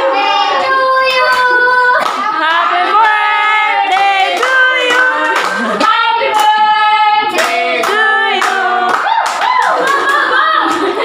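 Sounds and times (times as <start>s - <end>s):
group singing: 0.0s - 9.1s
rhythmic hand clapping: 1.2s - 11.0s.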